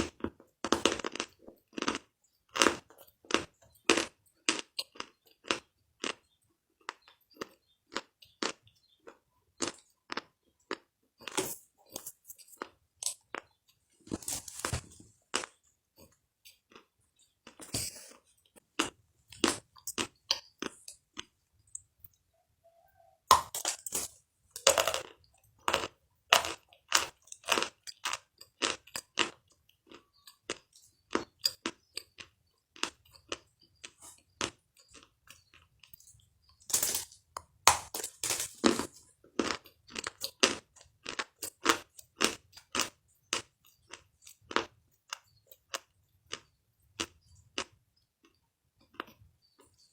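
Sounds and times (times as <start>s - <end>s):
chewing crunchy food: 0.0s - 22.2s, 22.9s - 49.9s.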